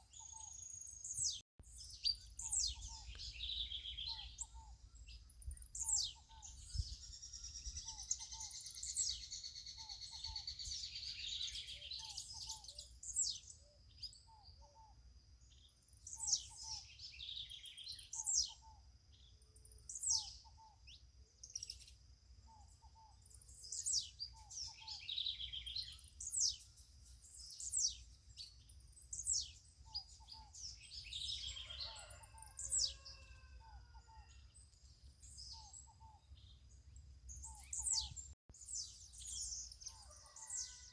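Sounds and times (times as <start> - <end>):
birds calling and singing: 0.0 - 40.9.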